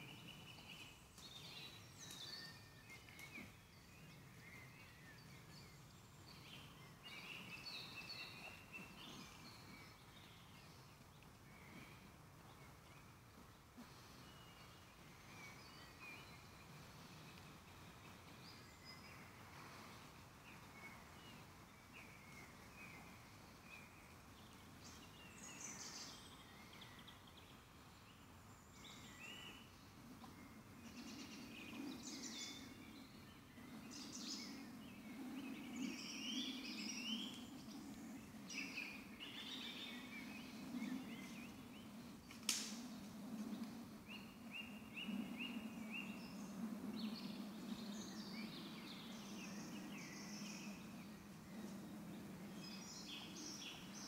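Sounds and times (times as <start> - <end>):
low continuous sound: 0.0 - 54.0
songbirds chirping and trilling: 0.0 - 54.0.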